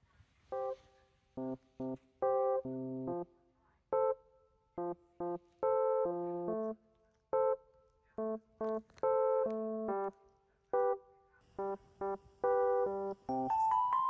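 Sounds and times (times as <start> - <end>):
bouncy keyboard tune: 0.5 - 14.0.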